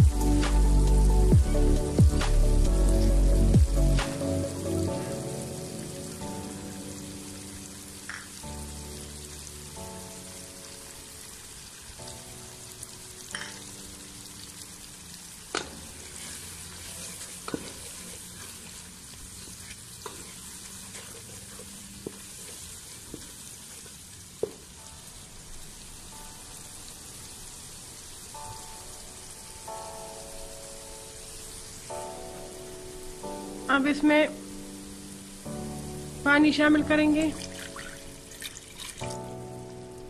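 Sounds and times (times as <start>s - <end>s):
masala sizzling in a pan: 0.0s - 40.0s.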